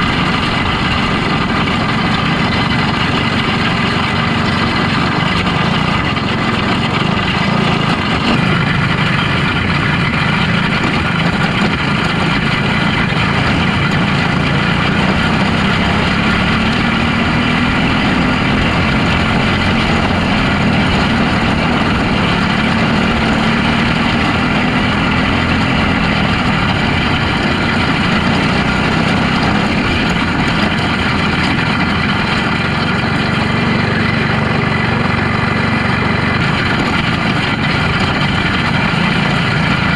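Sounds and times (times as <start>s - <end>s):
small car engine running: 0.0s - 39.9s.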